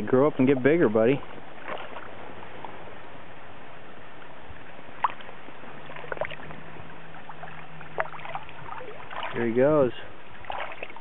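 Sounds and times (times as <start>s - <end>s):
flowing river water: 0.0s - 11.0s
small water splashes: 0.3s - 3.0s, 4.5s - 11.0s.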